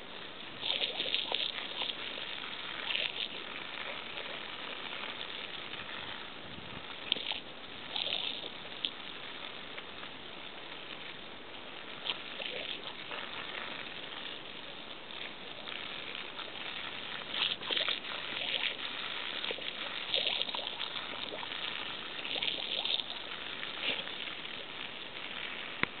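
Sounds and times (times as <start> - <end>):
garden hose spraying: 0.0 - 26.0
water splashes: 0.0 - 26.0.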